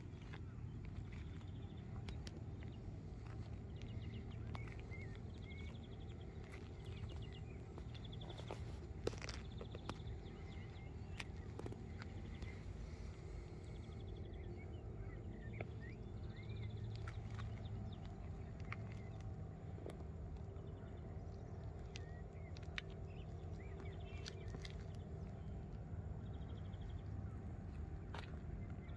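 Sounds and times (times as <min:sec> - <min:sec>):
footsteps on gravel: 0:00.0 - 0:13.9, 0:15.6 - 0:25.9, 0:26.8 - 0:28.9
low rumble: 0:00.0 - 0:28.9
small birds chirping: 0:00.0 - 0:28.9.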